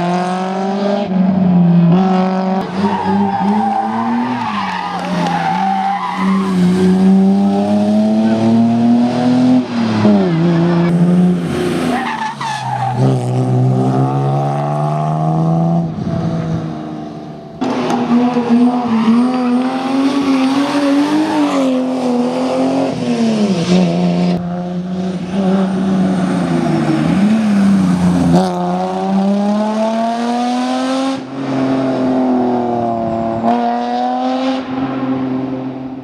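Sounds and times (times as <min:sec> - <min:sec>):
rally car engines accelerating: 0:00.0 - 0:36.0.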